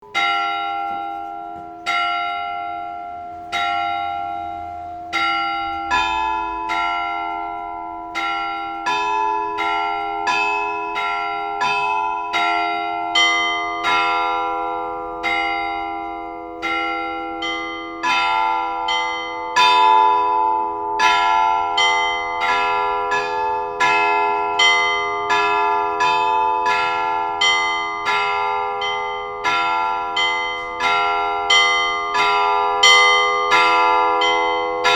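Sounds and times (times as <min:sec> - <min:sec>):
deep bell ringing: 0:00.0 - 0:34.9
higher bells pealing: 0:00.0 - 0:34.9
slow church bell strokes: 0:00.0 - 0:34.9.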